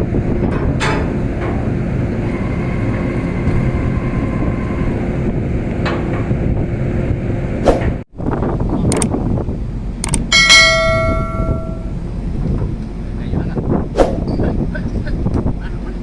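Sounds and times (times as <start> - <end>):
boat engine rumble: 0.0 - 16.0
wind on microphone: 0.0 - 16.0.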